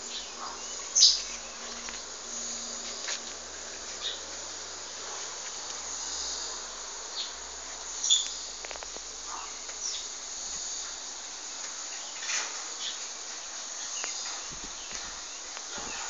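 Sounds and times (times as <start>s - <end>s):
high-pitched insect drone: 0.0s - 16.0s
sharp insect chirps: 0.0s - 16.0s.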